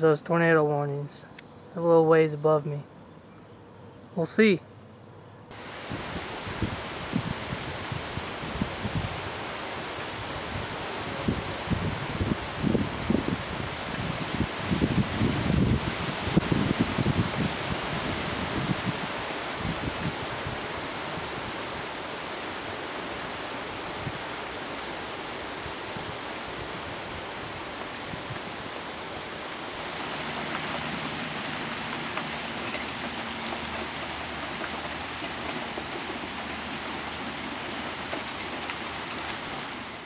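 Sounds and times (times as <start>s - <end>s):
wind: 0.0s - 40.0s
rain: 5.5s - 40.0s.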